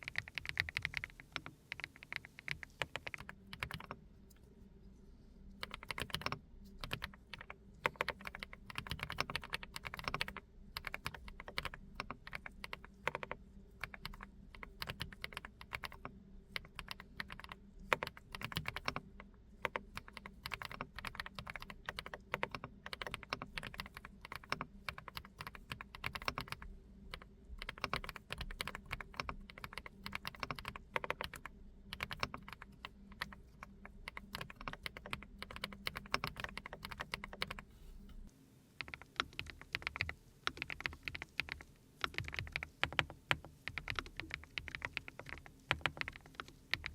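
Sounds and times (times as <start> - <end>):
mechanical keyboard typing: 0.0 - 4.0, 5.6 - 38.2, 38.8 - 46.9.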